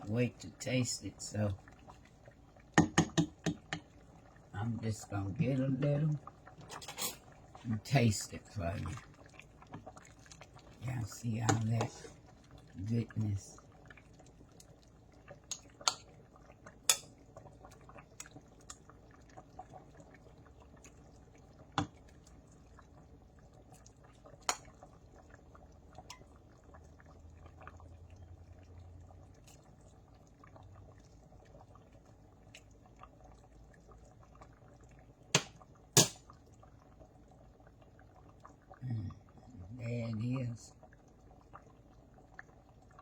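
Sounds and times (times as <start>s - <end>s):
soft liquid sounds: 0.0s - 43.0s.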